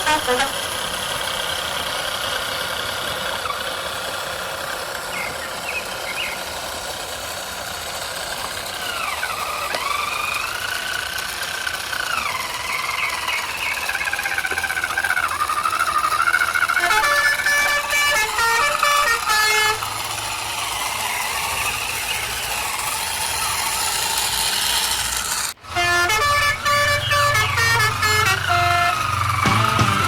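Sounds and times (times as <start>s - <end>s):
electric motors whining: 0.0s - 30.0s.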